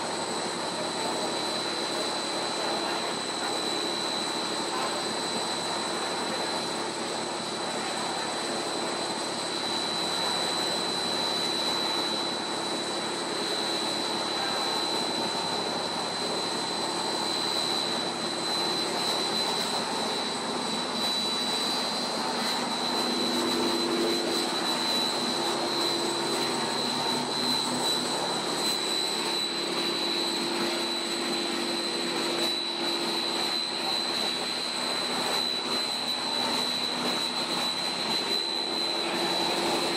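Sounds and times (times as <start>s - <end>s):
high constant whine: 0.0s - 39.9s
machine humming and hissing: 0.0s - 39.9s.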